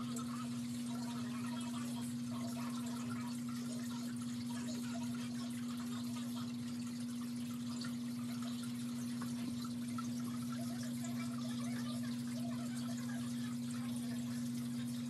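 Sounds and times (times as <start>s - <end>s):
low electrical hum: 0.0s - 15.0s
water trickling and dripping: 0.0s - 15.0s.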